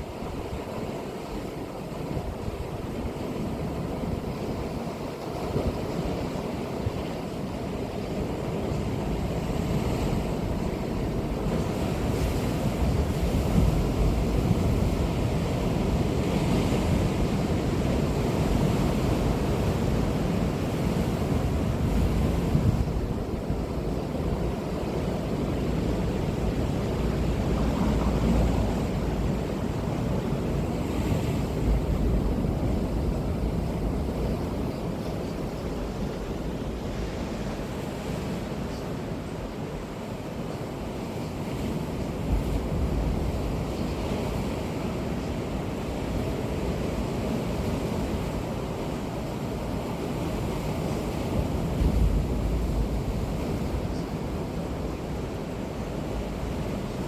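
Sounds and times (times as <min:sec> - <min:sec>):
waves breaking on shore: 0:00.0 - 0:57.0
wind buffeting microphone: 0:00.0 - 0:57.0.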